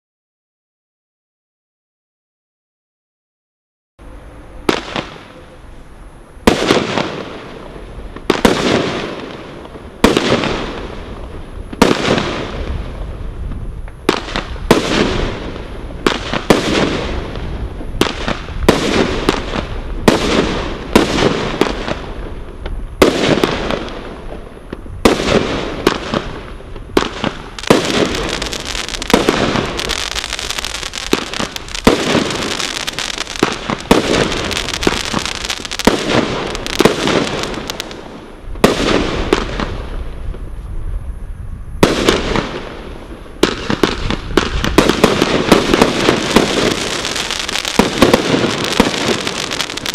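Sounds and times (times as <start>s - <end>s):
firework crackling bursts: 6.4s - 40.6s, 41.8s - 49.9s.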